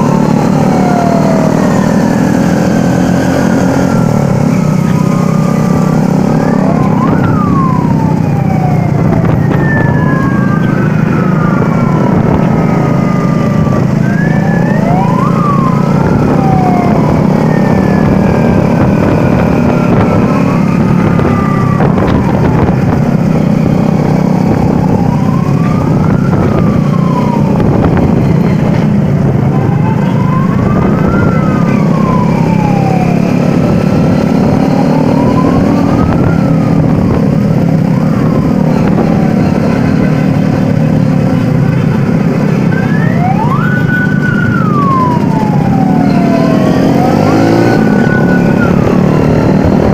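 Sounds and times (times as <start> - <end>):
drone of vehicle engines: 0.0 - 49.9
sirens wailing: 0.0 - 49.9.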